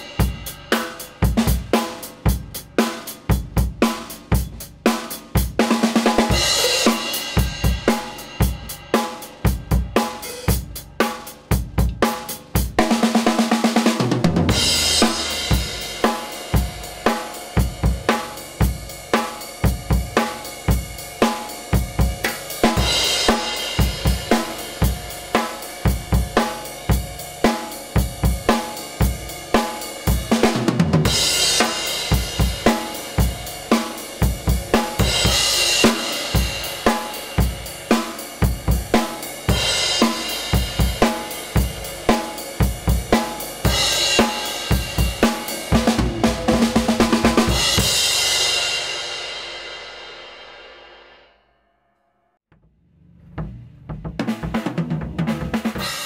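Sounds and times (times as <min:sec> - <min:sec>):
drum kit beat: 0:00.0 - 0:51.0, 0:53.2 - 0:56.0.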